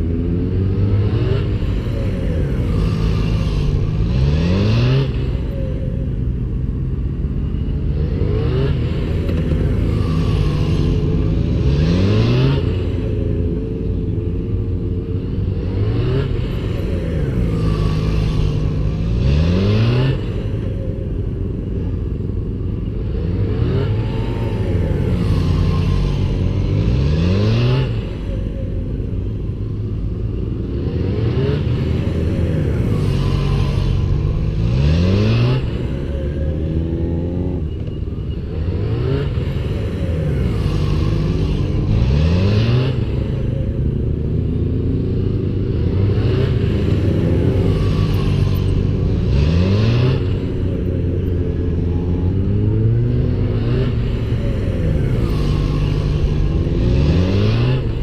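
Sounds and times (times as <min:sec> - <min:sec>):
motorcycles passing: 0:00.0 - 0:58.0.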